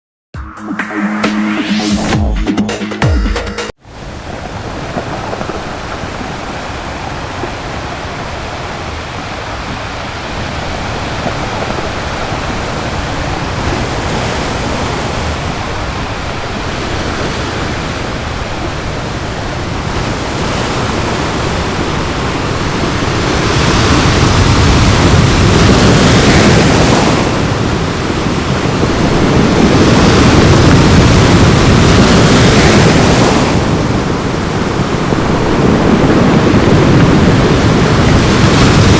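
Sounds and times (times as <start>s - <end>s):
ocean waves breaking on beach: 3.8s - 38.9s.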